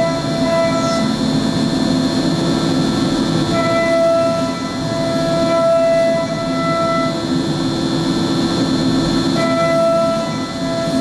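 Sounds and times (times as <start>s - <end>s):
router spindle cutting plywood: 0.0s - 7.4s, 8.9s - 11.0s.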